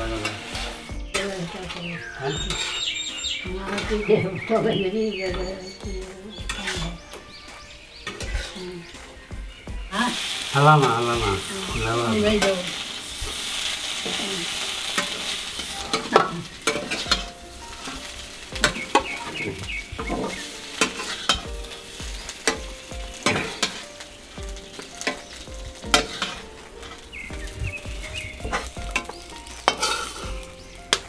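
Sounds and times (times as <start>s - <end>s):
spoon scraping a pan: 0.0s - 4.1s, 6.4s - 9.3s, 12.4s - 24.1s, 24.7s - 31.0s
cauliflower sizzling in a pan: 0.0s - 31.0s.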